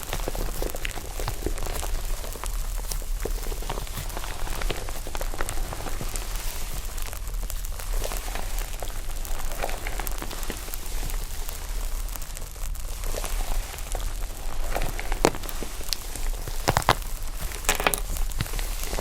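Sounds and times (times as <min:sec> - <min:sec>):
slime crackling and popping: 0:00.0 - 0:19.0.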